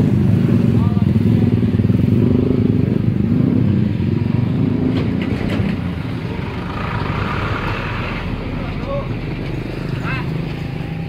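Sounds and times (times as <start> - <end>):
motorcycle and scooter engines: 0.0 - 11.0.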